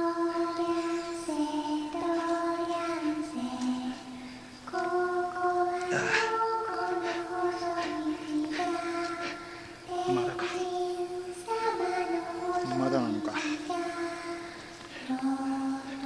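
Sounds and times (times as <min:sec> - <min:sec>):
woman singing slow melody: 0:00.0 - 0:16.0.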